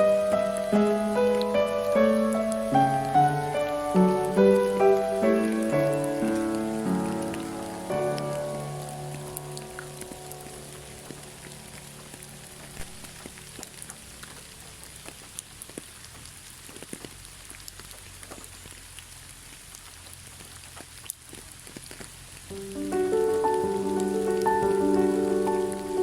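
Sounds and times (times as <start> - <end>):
raindrops ticking on a surface: 0.0 - 26.0
steady rain: 0.0 - 26.0.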